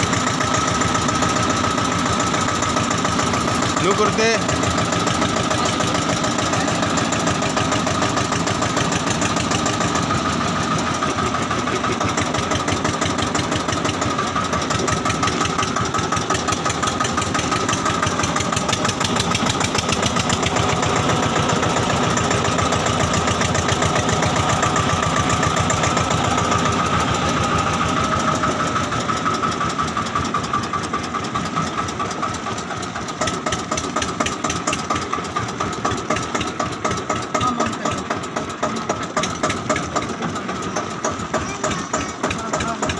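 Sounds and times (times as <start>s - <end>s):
tractor engine pulsing: 0.0s - 42.9s.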